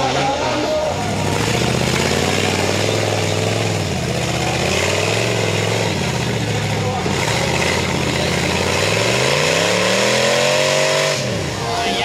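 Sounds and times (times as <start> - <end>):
buggy engine running under load: 0.0 - 12.0.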